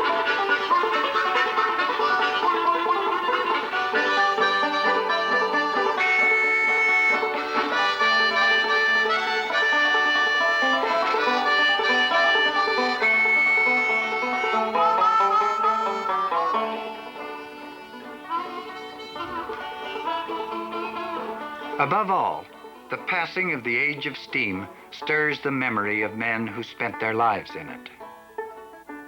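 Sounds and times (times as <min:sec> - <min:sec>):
banjo playing quick melody: 0:00.0 - 0:29.0.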